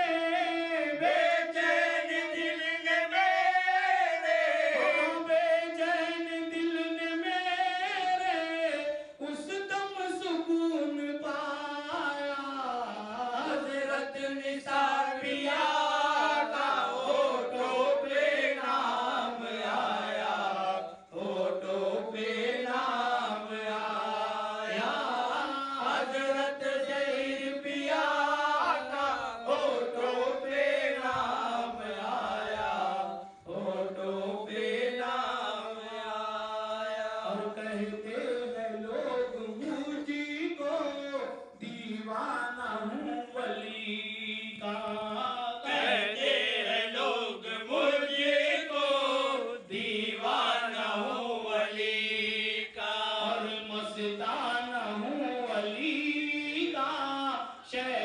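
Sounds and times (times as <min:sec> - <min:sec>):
man singing into microphone: 0:00.0 - 0:58.0.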